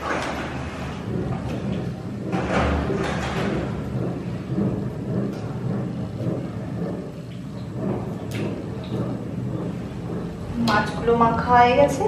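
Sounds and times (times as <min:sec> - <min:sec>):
low rumble: 0:00.6 - 0:12.0.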